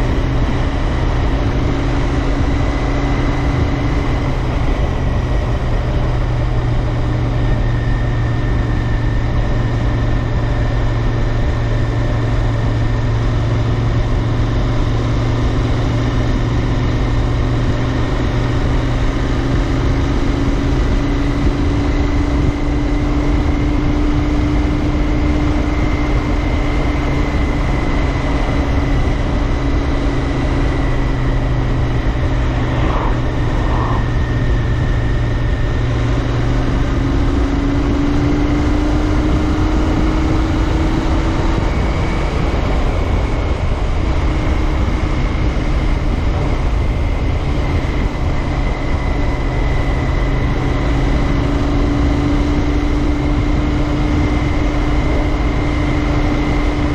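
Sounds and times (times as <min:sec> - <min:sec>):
motorcycle engine cruising: 0:00.0 - 0:56.9
wind rush and road noise: 0:00.0 - 0:56.9.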